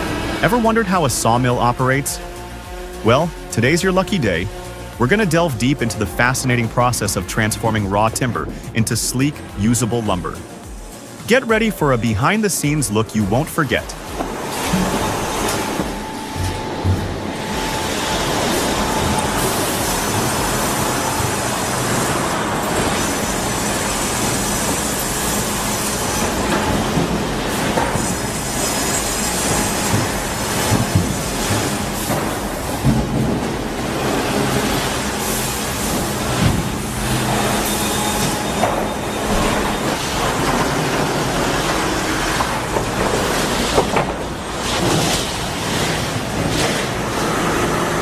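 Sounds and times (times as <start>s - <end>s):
high steady whining: 0.0s - 48.0s
sawmill machinery running: 0.0s - 48.0s.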